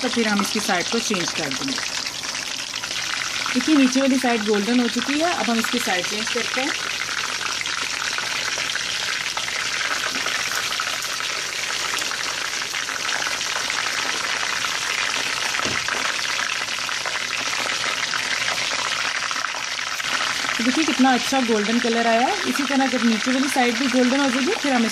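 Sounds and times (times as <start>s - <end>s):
oil sizzling and crackling: 0.0s - 24.9s.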